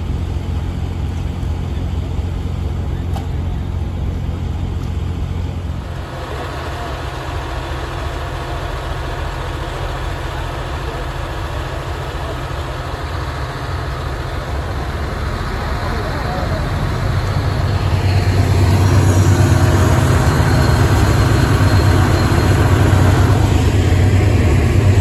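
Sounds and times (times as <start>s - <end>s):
diesel locomotives idling: 0.0s - 25.0s.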